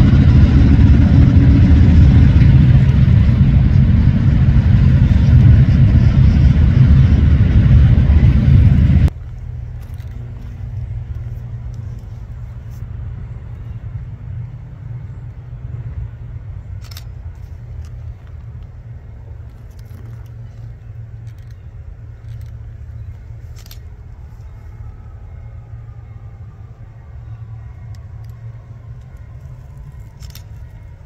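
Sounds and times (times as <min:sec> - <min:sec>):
diesel locomotives rumbling: 0:00.0 - 0:31.0.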